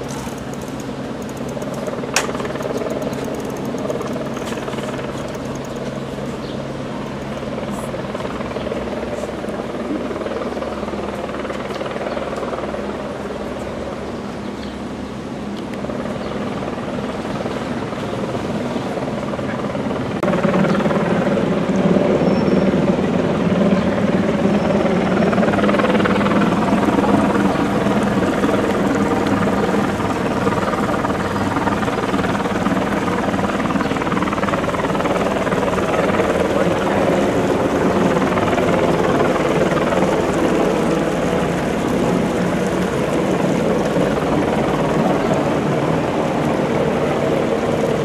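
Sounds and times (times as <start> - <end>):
steady engine drone: 0.0 - 48.0.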